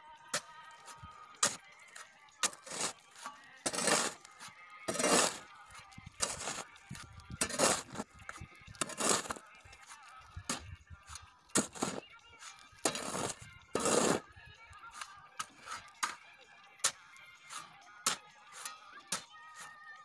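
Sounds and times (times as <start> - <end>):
shovel scraping gravel mix: 0.4 - 14.2, 14.9 - 15.9, 16.9 - 19.8.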